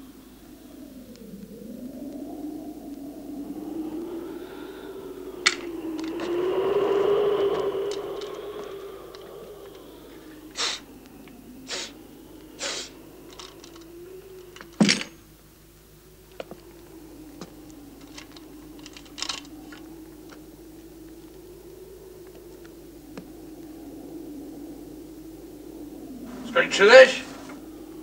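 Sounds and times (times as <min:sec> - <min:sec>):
small ticks: 0:00.0 - 0:26.4
faint steady hum: 0:00.0 - 0:28.0.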